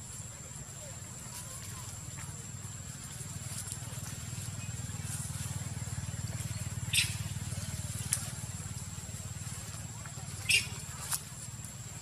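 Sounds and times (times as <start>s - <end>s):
pulsing low motor hum: 0.0s - 12.0s.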